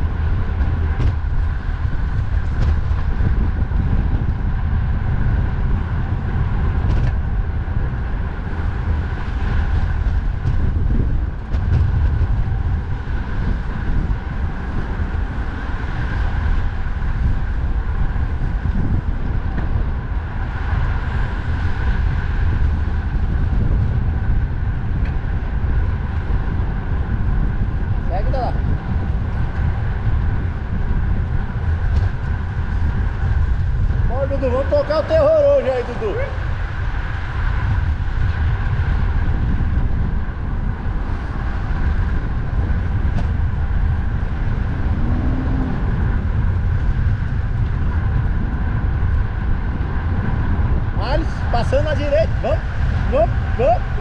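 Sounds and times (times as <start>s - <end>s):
road traffic noise: 0.0s - 54.0s
wind rumble on microphone: 0.0s - 54.0s.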